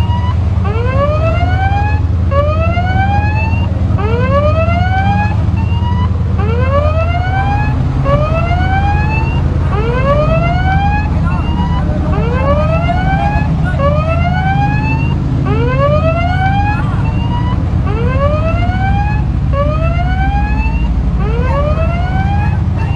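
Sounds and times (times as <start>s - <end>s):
ship engines droning: 0.0s - 22.9s
ship's siren whooping: 0.0s - 22.9s.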